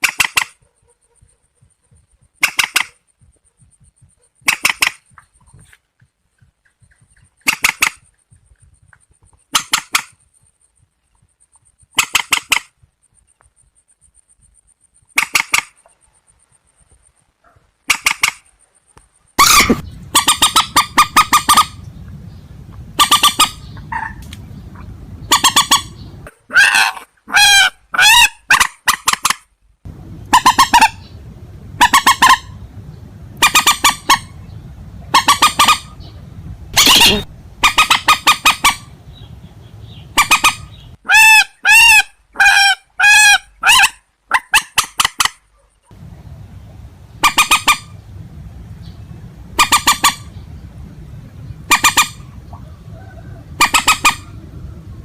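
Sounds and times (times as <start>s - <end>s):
rail birds calling: 0.0s - 55.0s
steady low hum: 0.6s - 12.0s, 12.7s - 26.4s, 29.6s - 41.0s, 45.8s - 55.0s.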